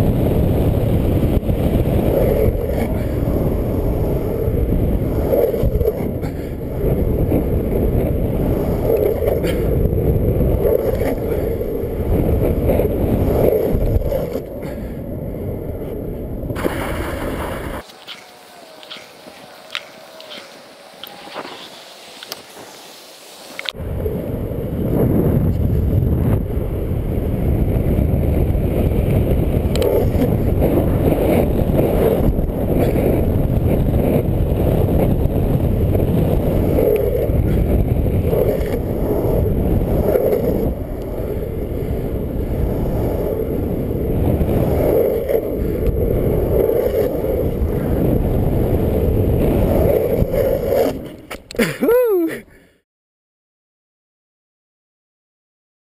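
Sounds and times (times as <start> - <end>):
wind rushing over microphone: 0.0 - 18.2, 18.8 - 51.6
longboard wheels rolling on asphalt: 0.0 - 51.8.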